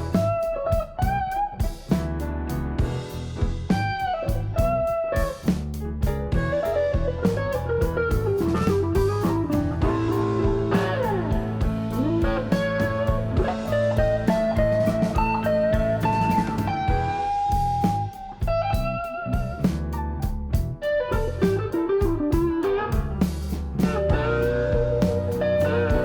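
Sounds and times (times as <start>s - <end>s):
bluesy electric guitar with drums: 0.0s - 26.0s.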